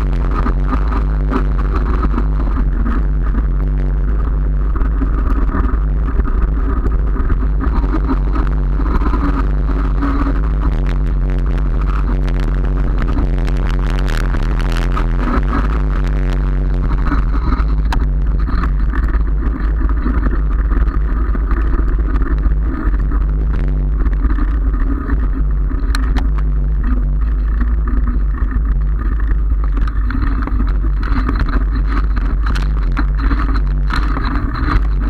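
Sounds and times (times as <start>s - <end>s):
bicycle tyres on brick paving: 0.0s - 35.0s
wind rumble on microphone: 0.0s - 35.0s.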